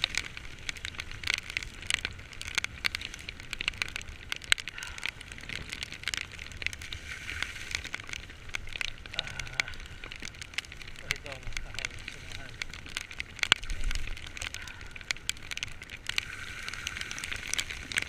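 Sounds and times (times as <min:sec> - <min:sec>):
raindrops ticking: 0:00.0 - 0:18.0.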